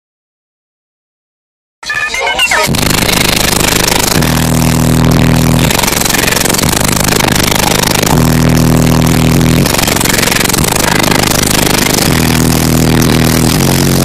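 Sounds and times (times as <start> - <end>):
distorted rattling din: 1.9 - 14.0
extremely loud bass notes: 2.6 - 14.0.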